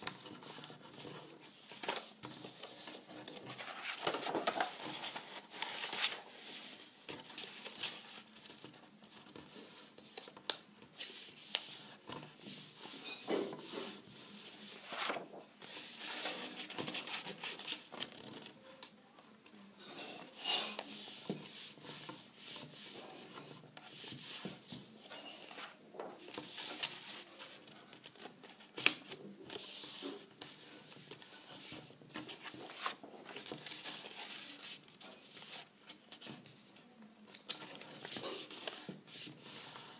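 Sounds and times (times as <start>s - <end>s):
cardboard rustling and scraping: 0.0s - 18.6s, 20.3s - 36.6s, 37.5s - 39.9s.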